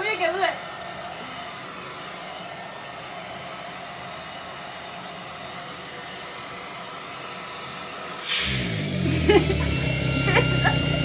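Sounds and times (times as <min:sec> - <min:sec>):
stick vacuum running: 0:00.5 - 0:11.0.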